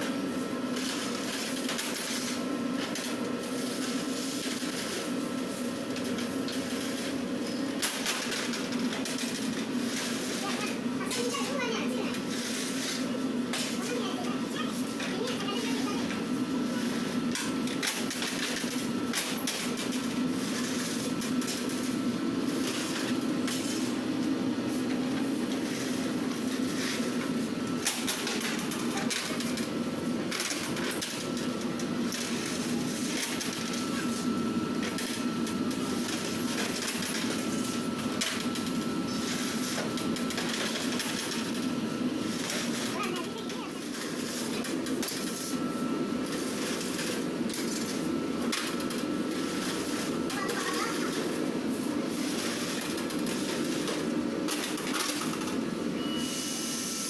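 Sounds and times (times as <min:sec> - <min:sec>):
low hum of oven machinery: 0:00.0 - 0:57.0.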